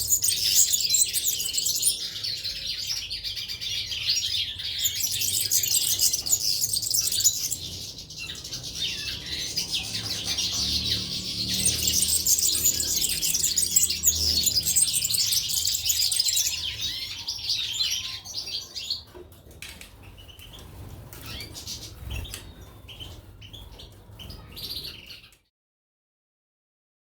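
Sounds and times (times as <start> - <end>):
caged finches chirping: 0.0 - 25.3.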